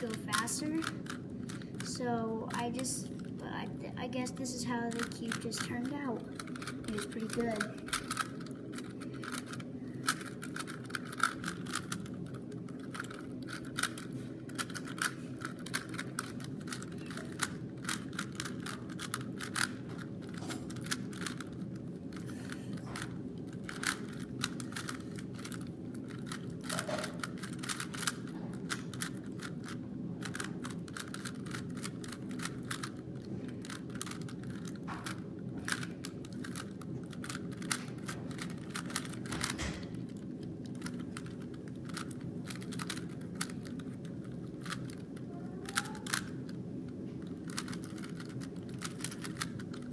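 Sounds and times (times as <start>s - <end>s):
low background hum: 0.0s - 49.9s
puzzle cube clicking: 4.9s - 22.8s, 23.5s - 46.6s, 47.2s - 49.9s.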